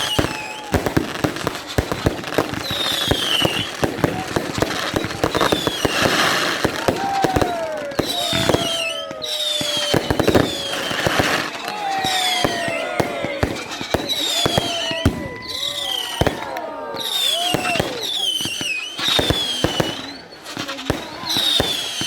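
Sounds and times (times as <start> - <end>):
fireworks cracking and banging: 0.0 - 22.0
fireworks whistling: 0.0 - 22.0.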